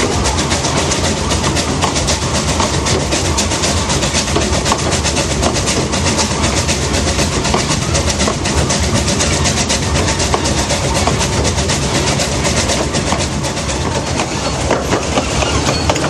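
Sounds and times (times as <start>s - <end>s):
steam engine fast even beat: 0.0s - 16.0s
wheels rumbling on rails: 0.0s - 16.0s.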